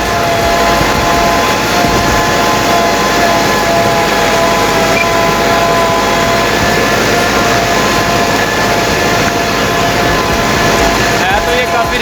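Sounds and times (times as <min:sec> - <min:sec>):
steady whine: 0:00.0 - 0:12.0
tractor engine running: 0:00.0 - 0:12.0.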